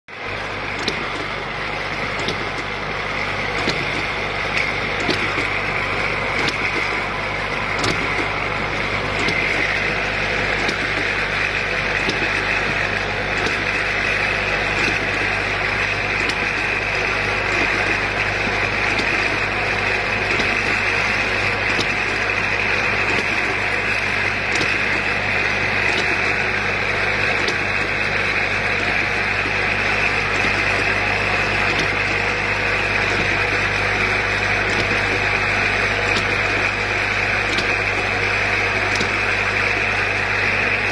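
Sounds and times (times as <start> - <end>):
constant hum: 0.1 - 40.9
machine whirring: 0.1 - 40.9.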